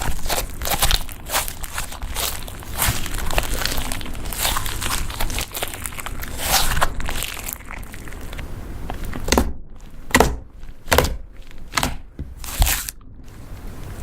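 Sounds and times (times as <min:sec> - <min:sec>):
slime rustling: 0:00.0 - 0:14.0
slime squelching: 0:00.0 - 0:14.0.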